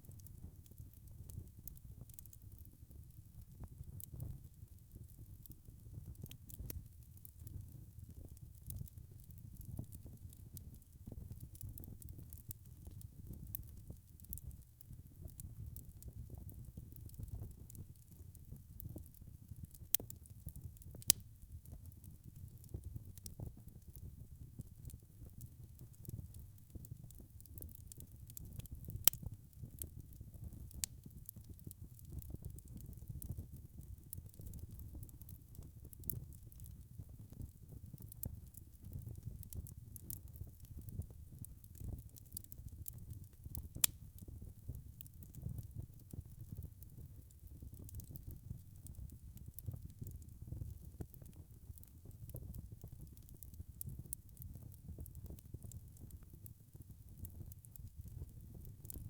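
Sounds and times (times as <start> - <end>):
log fire burning: 0.0 - 59.0.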